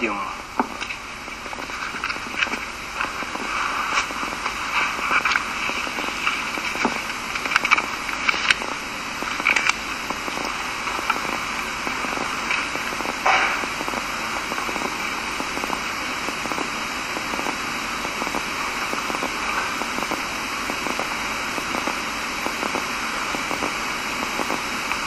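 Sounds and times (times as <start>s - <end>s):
crackles and clicks: 0.0s - 25.0s
steady hiss: 0.0s - 25.0s.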